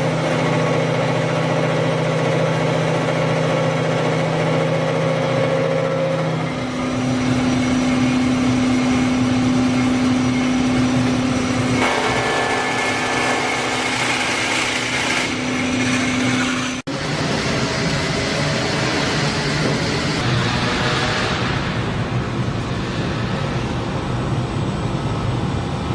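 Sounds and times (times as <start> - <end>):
drilling machine hum: 0.0 - 21.7
harsh high machine noise: 0.0 - 25.9.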